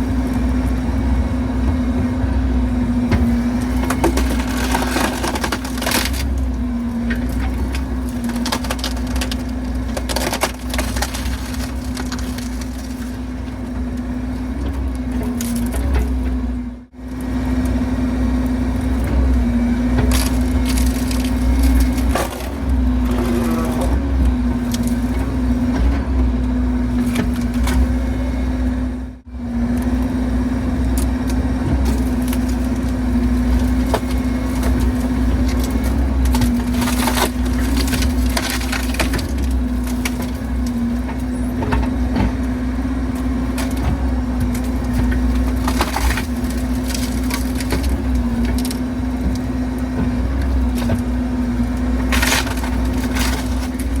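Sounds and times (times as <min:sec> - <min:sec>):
wood cracking and splintering: 0:00.0 - 0:16.4, 0:17.1 - 0:28.9, 0:29.7 - 0:54.0
excavator diesel engine running: 0:00.0 - 0:54.0.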